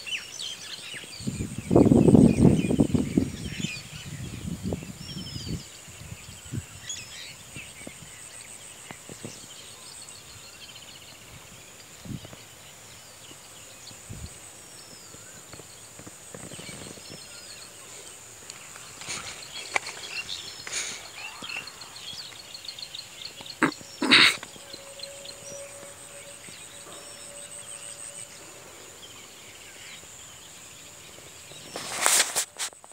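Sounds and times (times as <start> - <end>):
steady high-pitched hiss: 0.0 - 32.9.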